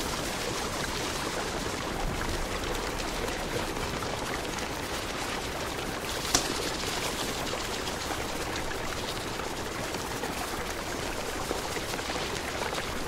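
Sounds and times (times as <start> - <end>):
campfire crackles: 0.0 - 13.0.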